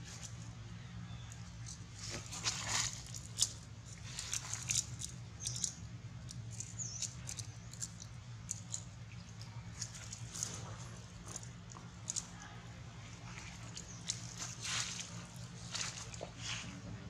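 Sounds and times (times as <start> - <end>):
steady low hum: 0.0 - 17.0
monkeys chewing crunchy food: 1.4 - 12.5, 13.2 - 16.4.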